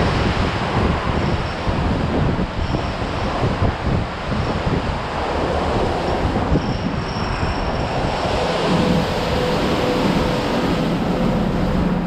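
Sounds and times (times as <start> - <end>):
car wash machinery roaring: 0.0 - 12.0.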